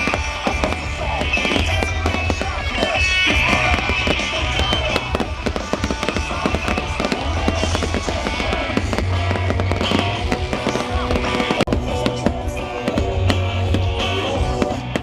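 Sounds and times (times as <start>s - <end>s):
fireworks crackling and popping: 0.0s - 15.0s
music with steady bass: 0.0s - 15.0s.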